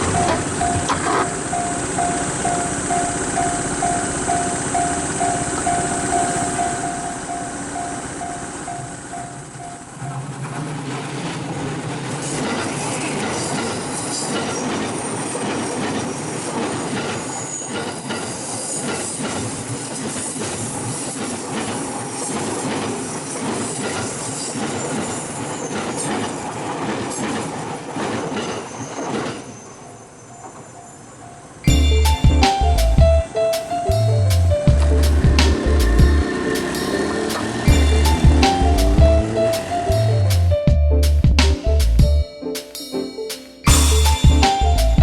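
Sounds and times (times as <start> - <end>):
wheels squealing: 0.0 - 41.2
train passing on rails: 0.0 - 45.0.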